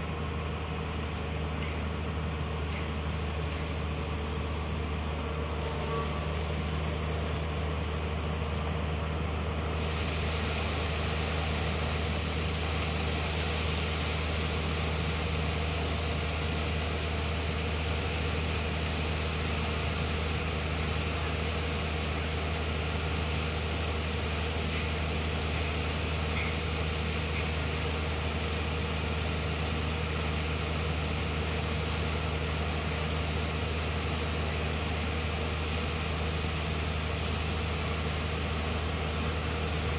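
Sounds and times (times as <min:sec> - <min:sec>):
diesel engine drone: 0:00.0 - 0:39.9
pump rushing mud: 0:00.0 - 0:39.9.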